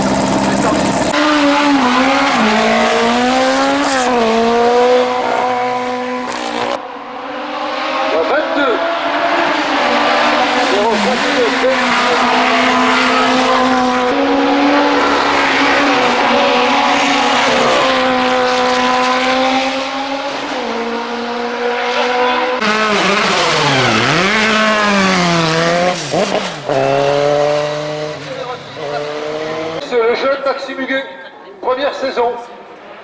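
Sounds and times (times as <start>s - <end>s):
racing car engines revving: 0.0s - 30.9s.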